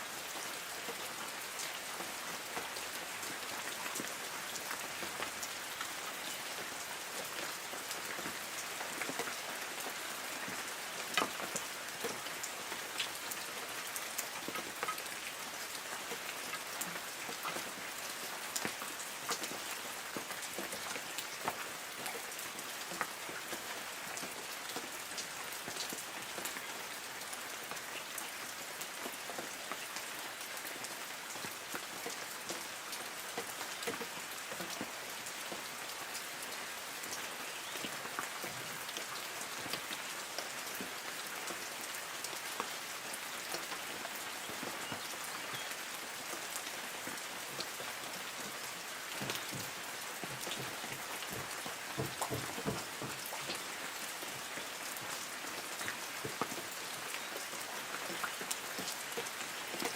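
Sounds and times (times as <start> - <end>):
raindrops ticking on leaves: 0.0 - 59.9.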